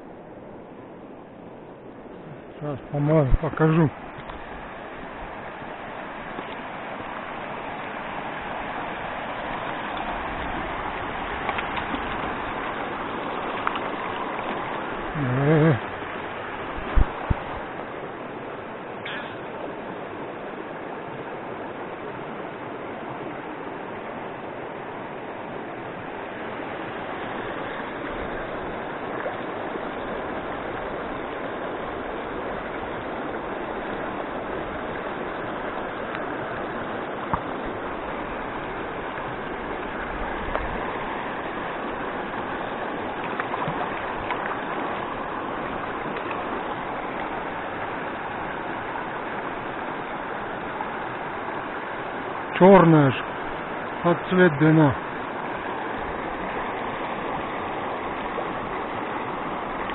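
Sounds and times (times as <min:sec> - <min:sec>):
river water rushing over stones: 0:00.0 - 0:59.9.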